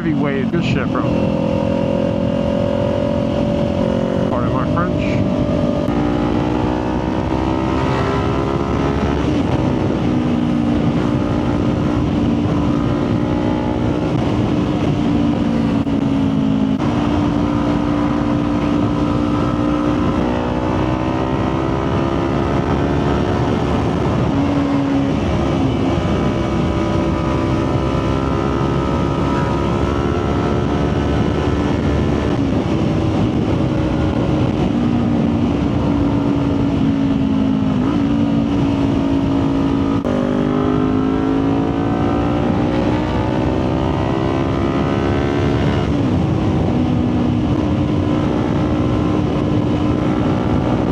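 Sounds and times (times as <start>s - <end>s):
motorcycle engine cruising: 0.0s - 50.9s
wind noise: 0.0s - 50.9s.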